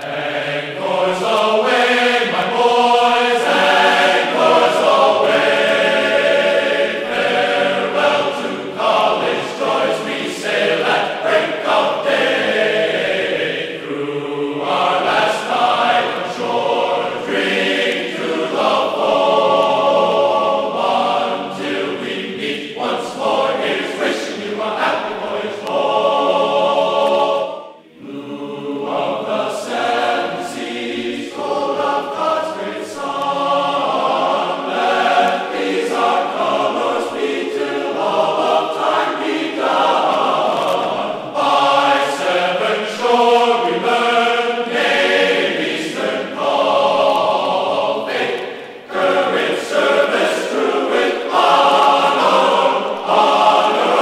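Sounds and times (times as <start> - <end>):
choir singing sustained chords: 0.0 - 54.0.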